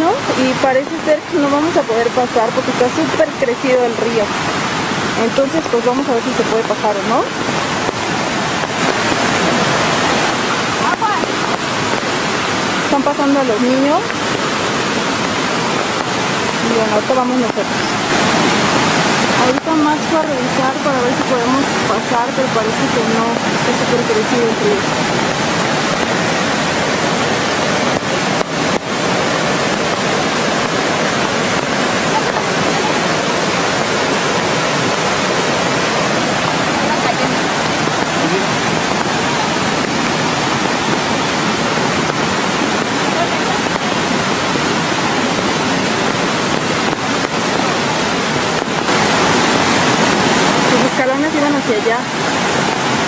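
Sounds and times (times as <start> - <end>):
rushing river and waterfall: 0.0 - 53.0.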